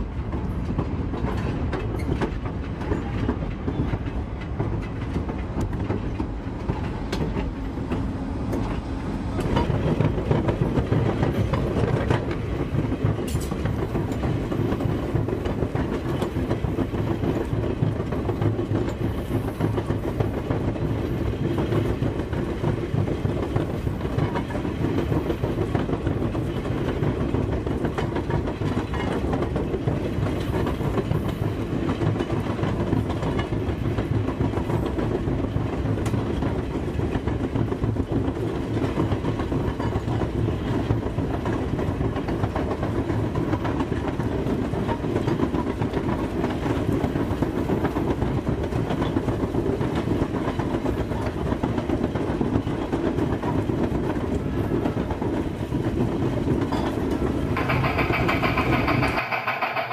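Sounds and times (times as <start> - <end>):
railroad car wheels rumbling: 0.0 - 59.9.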